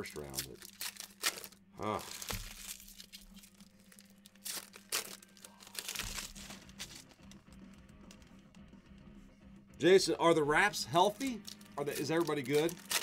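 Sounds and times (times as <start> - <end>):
trading cards rustling and clicking: 0.0 - 8.5, 11.0 - 13.0.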